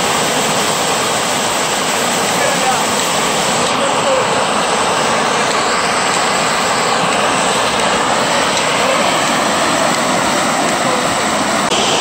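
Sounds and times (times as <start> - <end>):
water rushing from culvert: 0.0 - 12.0.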